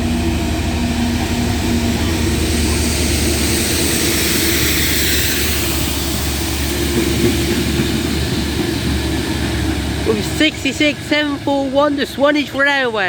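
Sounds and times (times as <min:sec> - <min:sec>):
diesel locomotive drone: 0:00.0 - 0:13.0
wheels on rails: 0:00.1 - 0:13.0.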